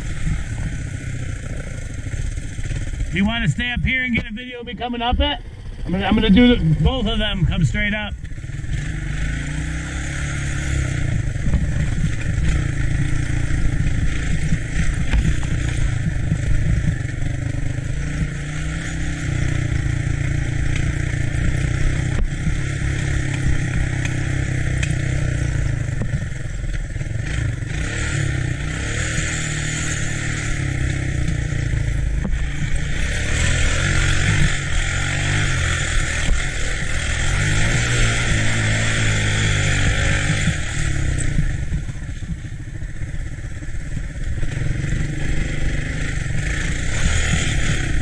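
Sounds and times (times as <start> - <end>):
three-wheeler engine rumbling: 0.0 - 48.0.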